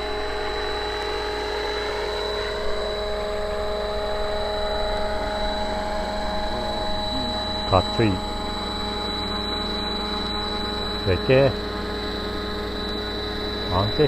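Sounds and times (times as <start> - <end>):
model helicopter whine: 0.0 - 14.0.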